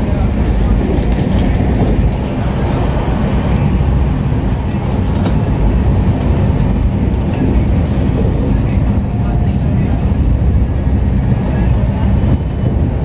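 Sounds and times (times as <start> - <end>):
train coach rumbling at speed: 0.0 - 13.0
wheel-on-rail noise: 0.0 - 13.0.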